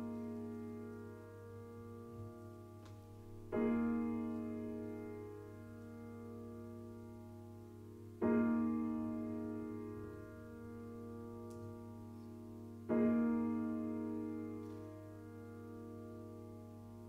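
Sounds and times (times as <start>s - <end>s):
piano chord ringing: 0.0s - 17.0s.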